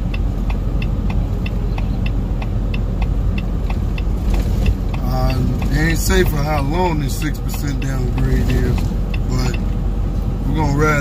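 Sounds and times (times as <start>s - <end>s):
diesel engine rumble: 0.0s - 11.0s
steady ticking: 0.0s - 11.0s.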